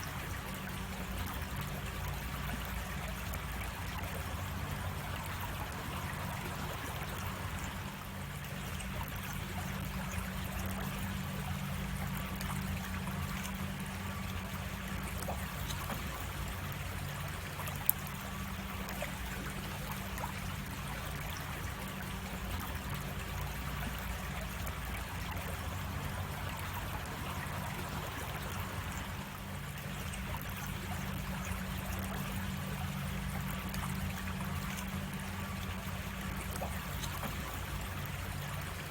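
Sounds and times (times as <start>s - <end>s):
creek water over rocks: 0.0s - 38.9s.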